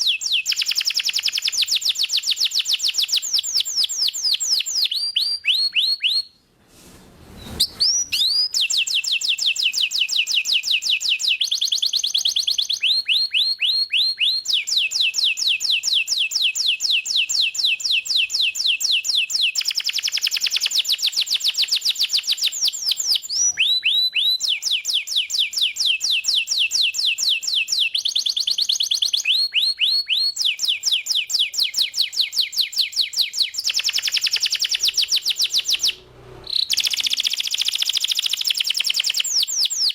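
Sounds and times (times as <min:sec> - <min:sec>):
canary singing trills: 0:07.6 - 0:39.9.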